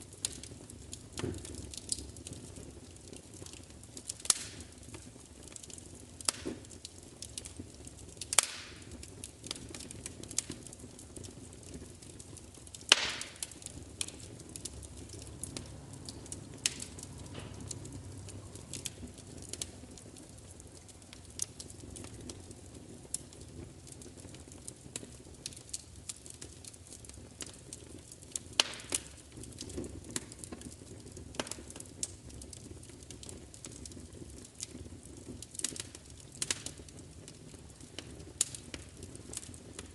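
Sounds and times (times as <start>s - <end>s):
faint steady hiss: 0.0s - 39.9s
fire crackling: 0.0s - 39.9s.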